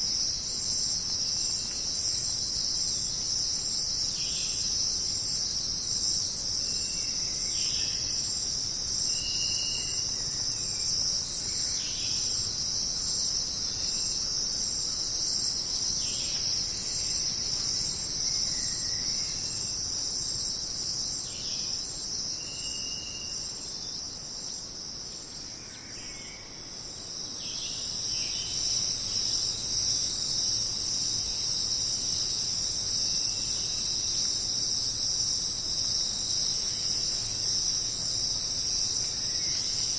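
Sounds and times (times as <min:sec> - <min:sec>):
jungle insects chorus: 0:00.0 - 0:39.9.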